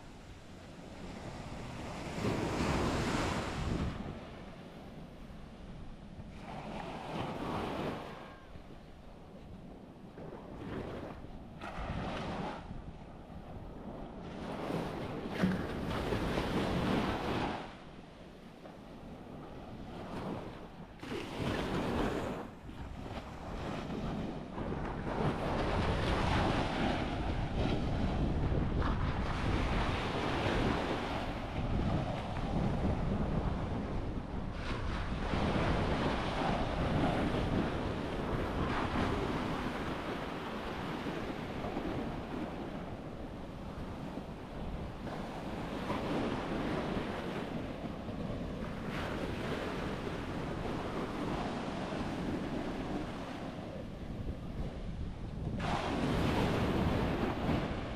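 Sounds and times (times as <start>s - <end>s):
surf washing on sandy beach: 0.0s - 8.6s, 19.2s - 57.9s
wind buffeting microphone: 0.0s - 17.7s, 19.0s - 57.9s.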